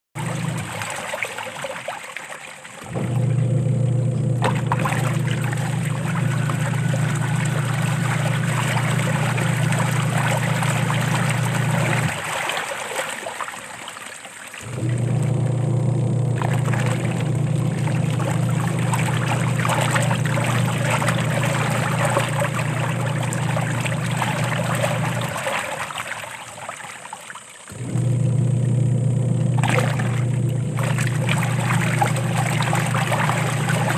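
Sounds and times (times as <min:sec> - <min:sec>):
washing machine drum motor hum: 0:00.2 - 0:01.1, 0:02.8 - 0:12.5, 0:14.6 - 0:26.0, 0:27.7 - 0:33.9
water sloshing in washing machine: 0:00.2 - 0:33.9.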